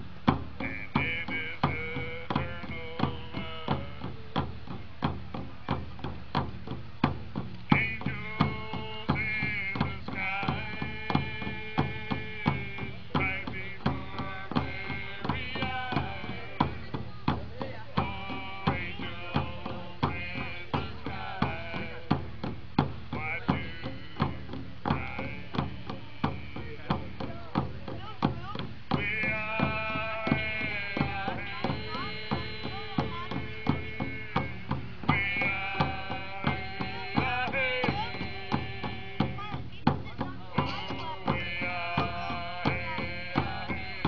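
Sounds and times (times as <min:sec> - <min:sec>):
voices singing long notes: 0:00.0 - 0:04.5, 0:07.7 - 0:22.5, 0:23.1 - 0:27.6, 0:28.9 - 0:39.6, 0:40.2 - 0:44.0
hand drums beating: 0:00.0 - 0:44.0.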